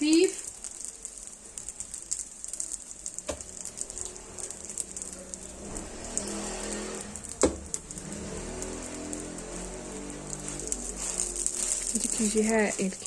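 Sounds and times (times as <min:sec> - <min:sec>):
dough sizzling in oiled pan: 0:00.0 - 0:13.0.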